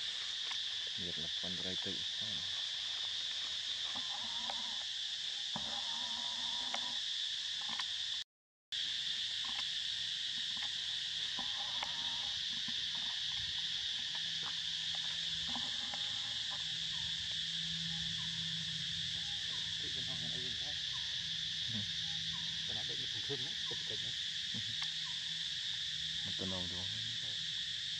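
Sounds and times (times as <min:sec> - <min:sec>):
forest insects droning: 0:00.0 - 0:08.2, 0:08.8 - 0:27.9.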